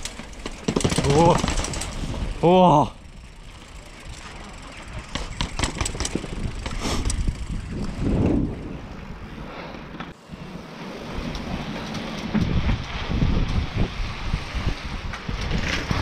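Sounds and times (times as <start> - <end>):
bike rattling down stone steps: 0.0 - 9.1, 9.8 - 16.0
tyres rolling on asphalt: 0.0 - 16.0
wind rumble on microphone: 0.9 - 3.5, 4.9 - 16.0.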